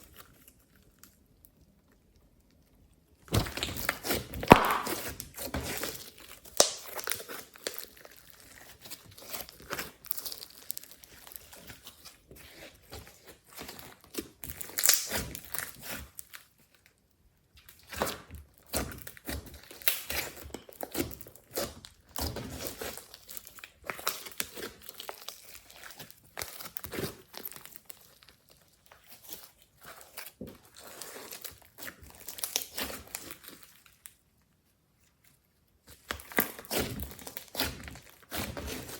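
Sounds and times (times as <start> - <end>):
slime crackling and popping: 3.3 - 16.5, 17.6 - 34.2, 35.9 - 38.9.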